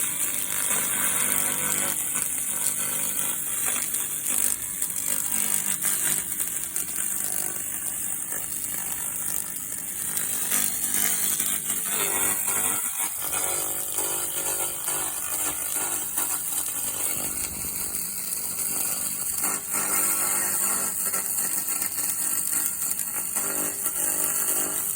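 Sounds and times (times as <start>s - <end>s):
laser crackling hiss on metal: 0.0s - 24.9s.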